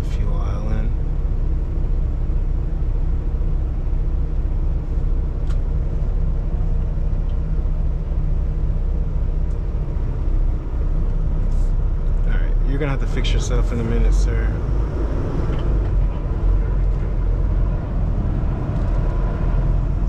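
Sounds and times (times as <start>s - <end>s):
diesel truck engine rumble: 0.0s - 20.0s.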